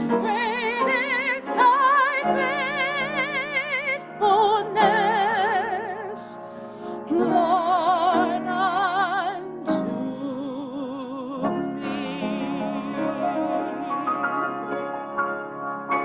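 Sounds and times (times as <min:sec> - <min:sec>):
person singing classical style: 0:00.0 - 0:14.9.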